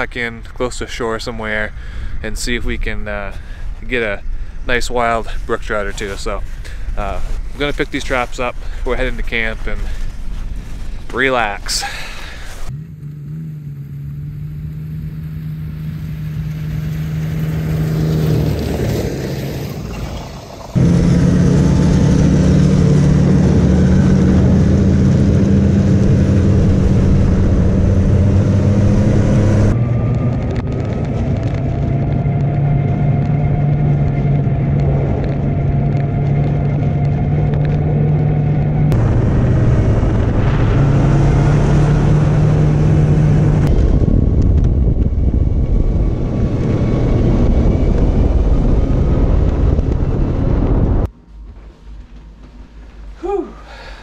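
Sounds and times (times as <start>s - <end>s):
track and wind noise: 0.0s - 54.0s
snowmobile engine running: 2.3s - 19.9s, 20.6s - 51.1s.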